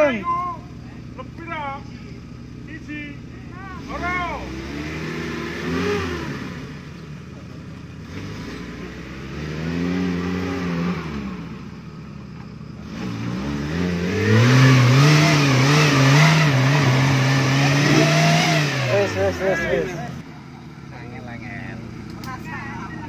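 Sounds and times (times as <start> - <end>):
off-road engines revving hard: 0.0 - 23.0.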